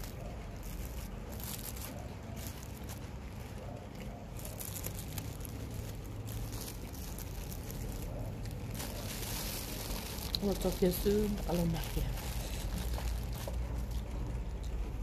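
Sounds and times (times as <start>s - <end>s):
low room hum: 0.0s - 15.0s
rustling: 0.0s - 15.0s.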